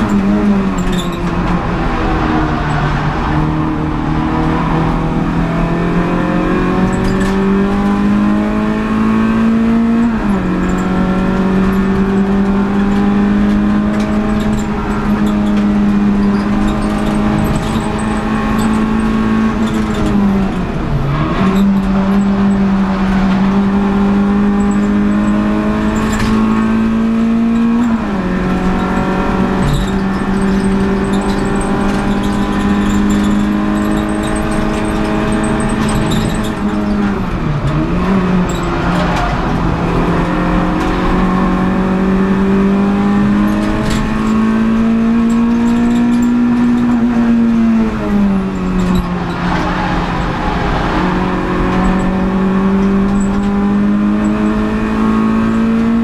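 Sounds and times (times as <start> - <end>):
car engine racing from cabin: 0.0 - 56.0.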